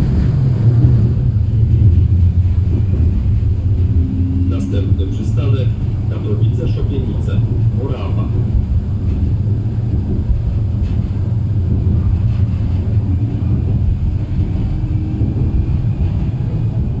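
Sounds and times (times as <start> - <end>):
tram rumbling along track: 0.0 - 17.0.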